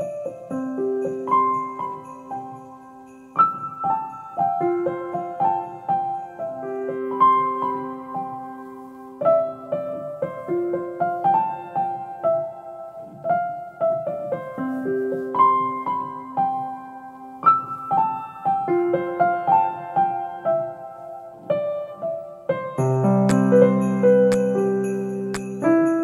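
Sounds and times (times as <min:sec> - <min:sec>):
calm piano melody: 0:00.0 - 0:26.0.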